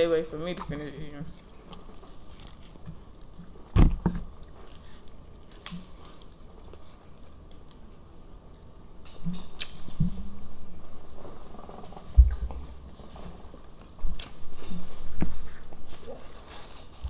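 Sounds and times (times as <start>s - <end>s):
people chewing food: 0.5s - 17.0s.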